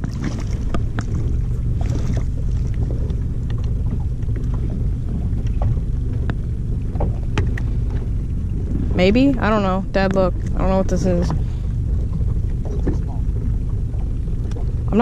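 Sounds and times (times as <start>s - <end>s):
water around boat: 0.0s - 15.0s
wind on microphone: 0.0s - 15.0s.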